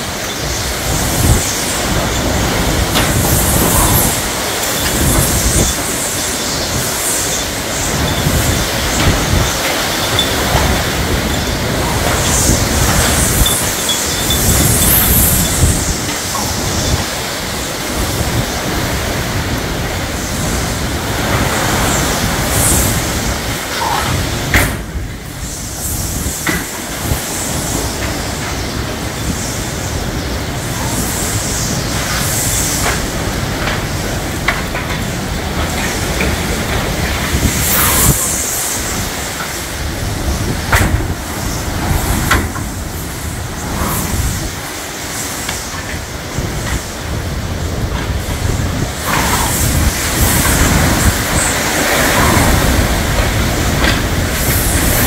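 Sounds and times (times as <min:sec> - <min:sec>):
heavy rain: 0:00.0 - 0:55.0
hurricane wind: 0:00.0 - 0:55.0.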